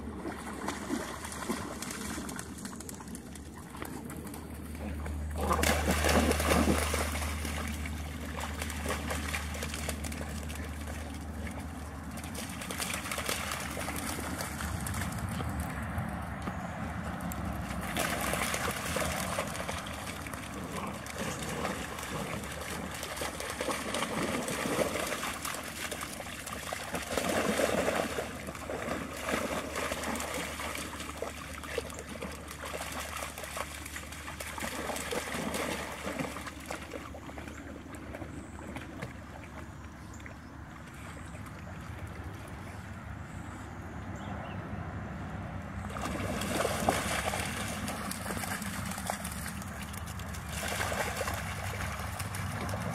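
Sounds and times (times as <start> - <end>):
dogs splashing through water: 0.0 - 44.4, 45.5 - 52.9.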